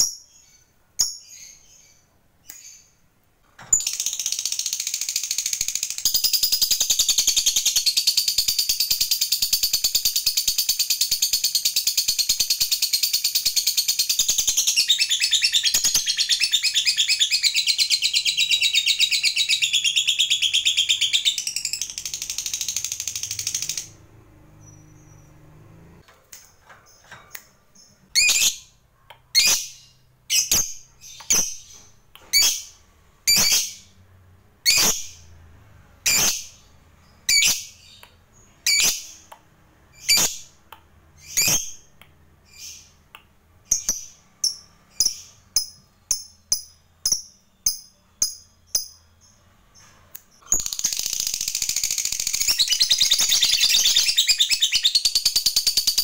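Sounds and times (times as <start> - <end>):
lovebird chirping: 0.0 - 26.0, 26.8 - 34.0, 34.6 - 35.4, 36.0 - 56.0.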